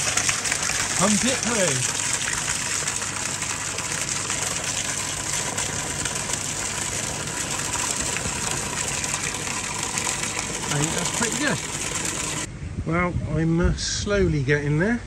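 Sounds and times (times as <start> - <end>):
air bubbling in water: 0.0 - 12.5
water pouring and splashing: 0.0 - 12.5.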